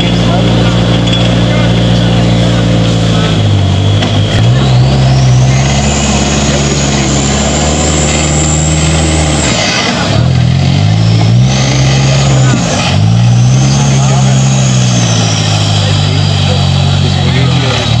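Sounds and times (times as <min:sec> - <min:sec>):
high engine whine: 0:00.0 - 0:18.0
off-road vehicle engine revving: 0:00.0 - 0:18.0.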